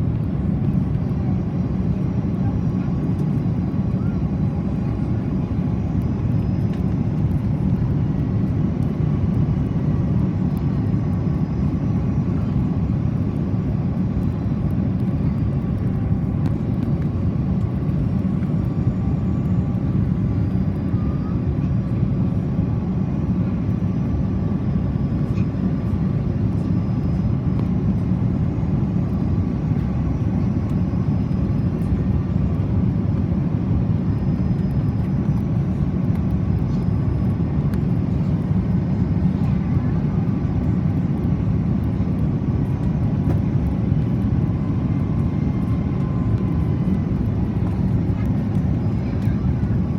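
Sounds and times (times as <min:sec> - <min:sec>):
aircraft cabin engine rumble: 0:00.0 - 0:49.9
faint steady whines: 0:00.0 - 0:49.9.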